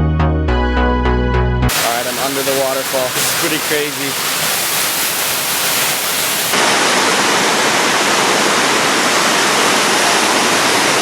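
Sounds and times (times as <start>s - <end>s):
waterfall rushing: 1.7s - 11.0s.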